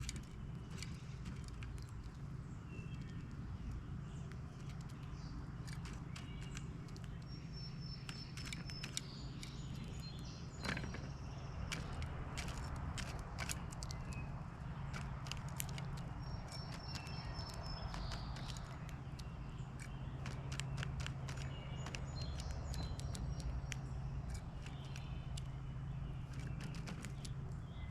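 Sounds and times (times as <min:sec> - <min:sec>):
birds clicking and tapping: 0:00.0 - 0:27.9
steady low rumble: 0:00.0 - 0:27.9.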